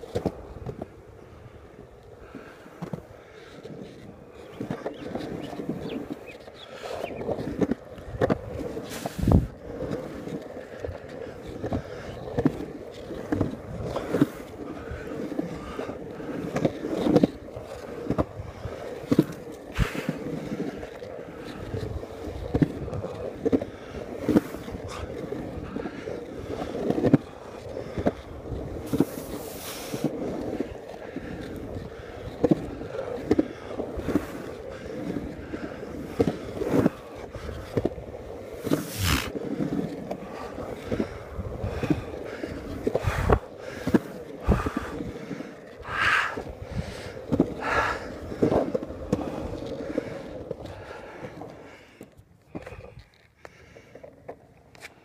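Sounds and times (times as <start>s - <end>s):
skateboard wheels rolling on concrete: 0.0s - 55.0s.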